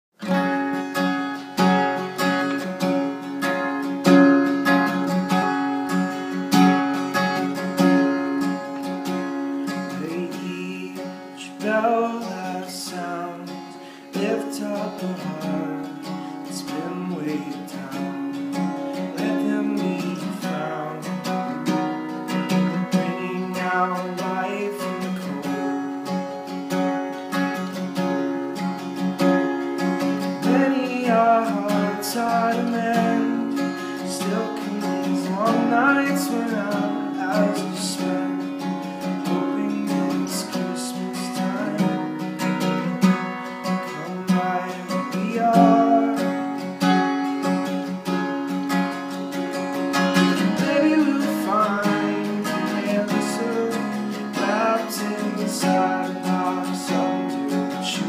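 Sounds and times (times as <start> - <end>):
acoustic guitar strumming: 0.1 - 58.0
man singing: 3.5 - 21.7, 22.3 - 26.4, 29.2 - 47.0, 49.8 - 58.0.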